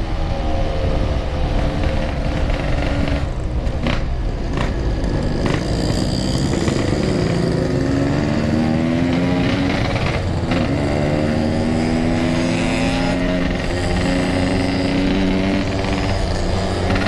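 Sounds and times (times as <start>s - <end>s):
road and wind noise: 0.0s - 17.0s
motorcycle engine under power: 1.7s - 17.0s.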